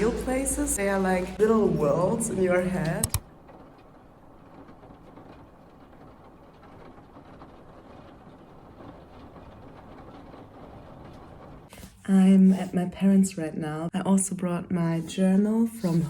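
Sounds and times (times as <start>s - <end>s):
background rumble and hiss: 0.0s - 14.4s.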